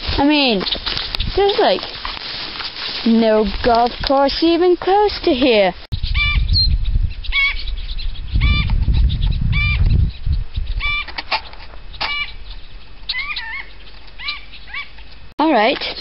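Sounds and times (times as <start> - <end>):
bird calling: 0.3 - 2.8, 5.6 - 16.0.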